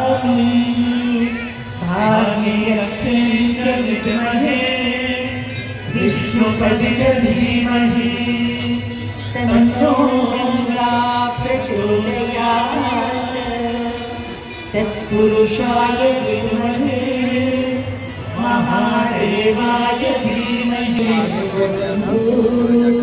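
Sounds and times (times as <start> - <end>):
voices chanting a hymn: 0.0 - 23.0.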